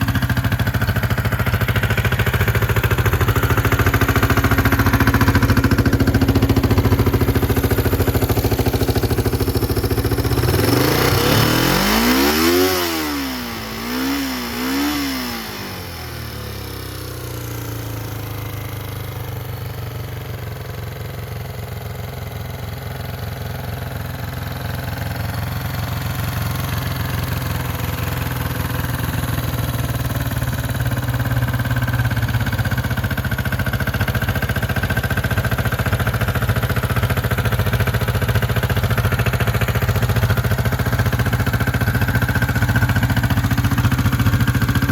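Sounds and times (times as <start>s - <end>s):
motorcycle engine revving: 0.0s - 20.2s, 22.7s - 44.9s.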